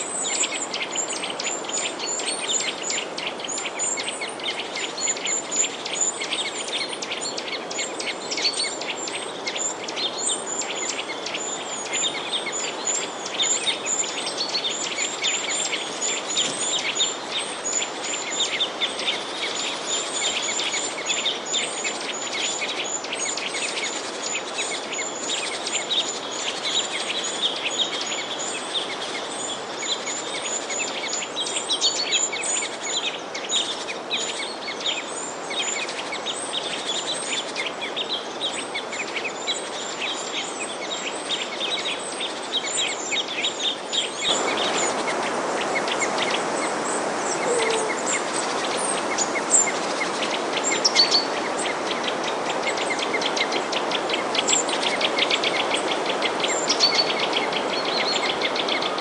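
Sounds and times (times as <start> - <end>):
small birds chirping: 0.0 - 59.0
steady background hiss: 0.0 - 59.0.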